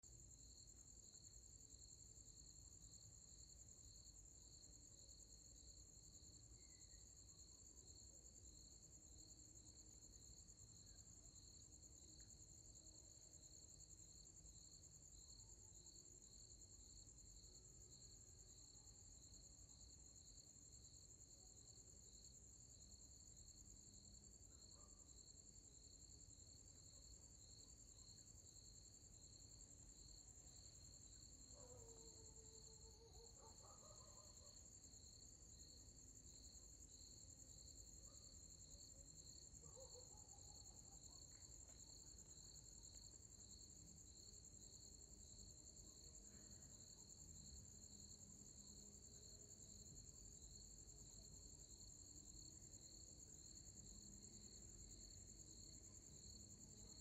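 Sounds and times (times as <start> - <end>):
cricket lower pulsing chirps: 0.3 - 57.0.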